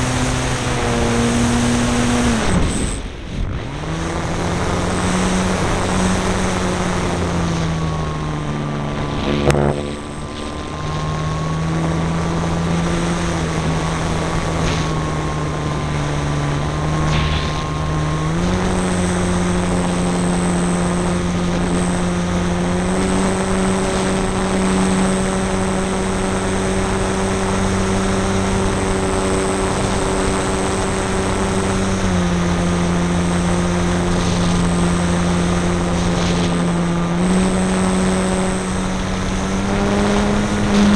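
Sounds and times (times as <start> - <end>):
air rushing over microphone: 0.0 - 40.9
electric motor and propeller: 0.0 - 40.9.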